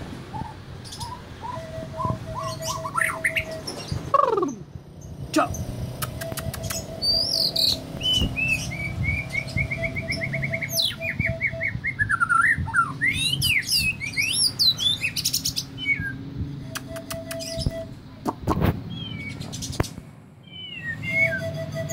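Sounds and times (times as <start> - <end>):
bird singing varied song: 0.3 - 21.9.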